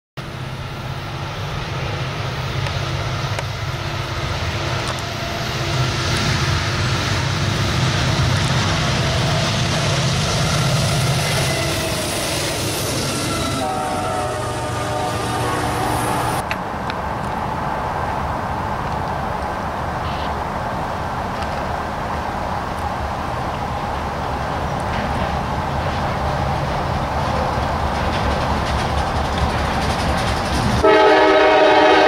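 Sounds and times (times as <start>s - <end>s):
diesel locomotive engines humming: 0.2s - 32.0s
wheel and rail noise: 0.2s - 32.0s.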